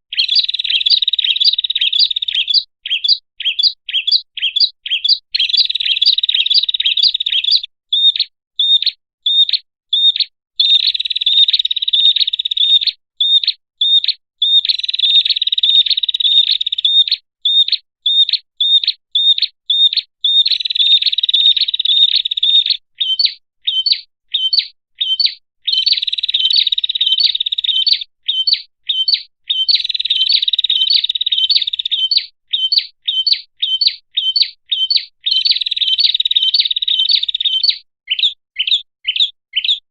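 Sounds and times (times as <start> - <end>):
bird chirping and chattering: 0.1 - 39.9.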